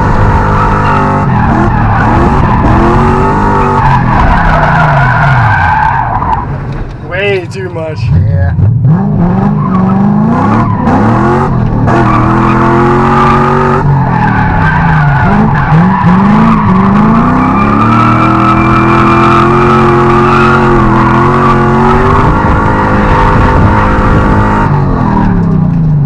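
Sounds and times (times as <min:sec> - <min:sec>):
car engine revving high: 0:00.0 - 0:05.6, 0:08.1 - 0:25.5
tyres skidding: 0:00.0 - 0:26.0.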